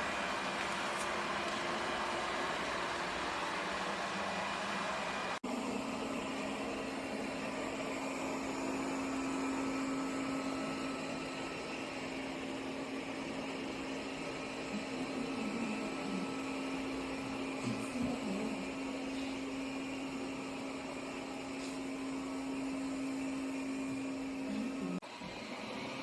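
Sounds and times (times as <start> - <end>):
robot vacuum motor humming: 0.0 - 26.0.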